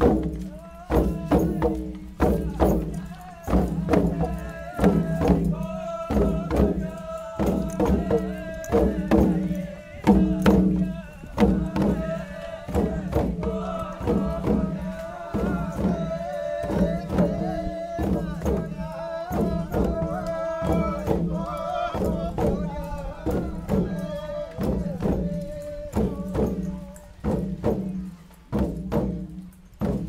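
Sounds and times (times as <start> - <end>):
voices chanting in held notes: 0.0 - 28.1
hand drums beating: 0.0 - 30.0.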